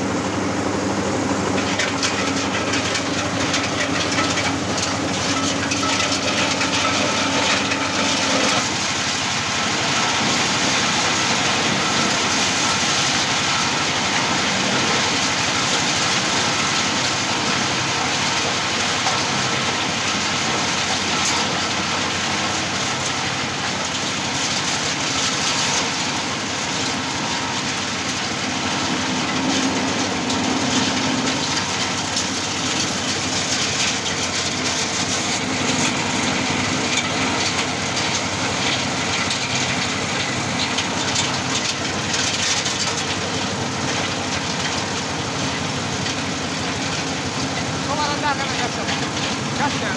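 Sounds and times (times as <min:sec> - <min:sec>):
nut peeling machine rattling: 0:01.4 - 0:49.9.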